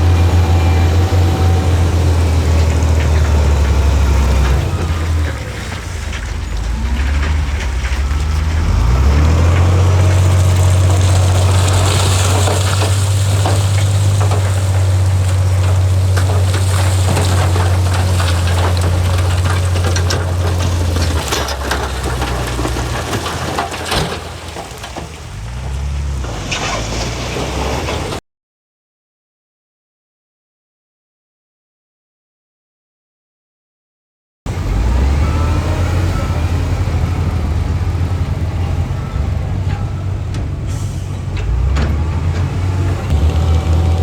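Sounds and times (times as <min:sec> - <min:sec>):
heavy diesel engine running: 0:00.0 - 0:28.2, 0:34.5 - 0:44.0
rock and dirt crunching: 0:00.0 - 0:28.2, 0:34.5 - 0:44.0.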